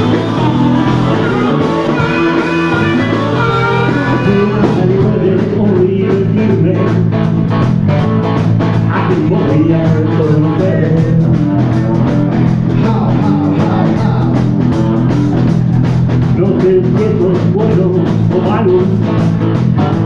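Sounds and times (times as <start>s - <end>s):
bass and drum beat: 0.0s - 20.0s
blues-rock band playing: 0.0s - 20.0s
electric guitar lines: 0.0s - 20.0s.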